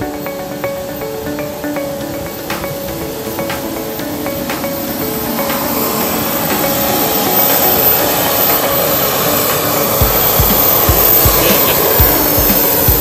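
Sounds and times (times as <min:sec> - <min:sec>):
auxiliary power unit jet whine: 0:00.0 - 0:13.0.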